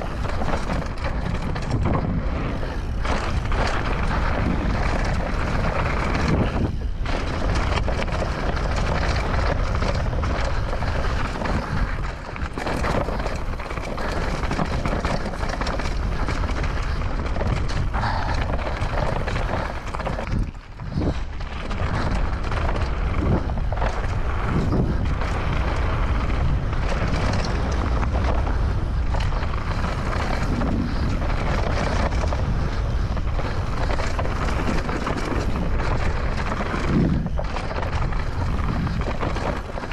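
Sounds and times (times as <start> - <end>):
bike rattling and knocking: 0.0 - 39.9
tyres crunching over dirt and stones: 0.0 - 39.9
wind buffeting microphone: 0.0 - 39.9.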